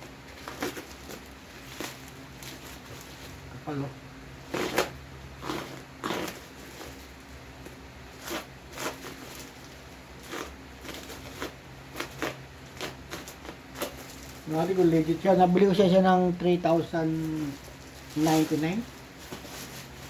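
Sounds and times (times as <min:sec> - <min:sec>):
bubble wrap crinkling: 0:00.2 - 0:03.8, 0:04.4 - 0:20.0.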